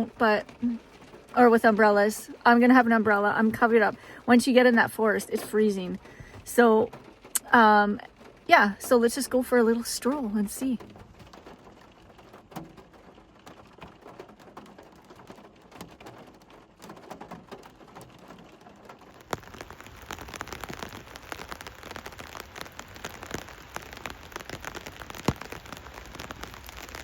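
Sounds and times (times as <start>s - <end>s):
heavy rain pattering: 0.0s - 27.0s.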